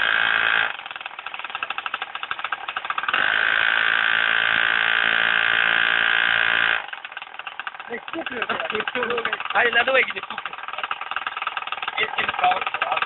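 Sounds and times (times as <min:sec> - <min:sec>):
motorbike engine idling and revving: 0:00.0 - 0:13.0.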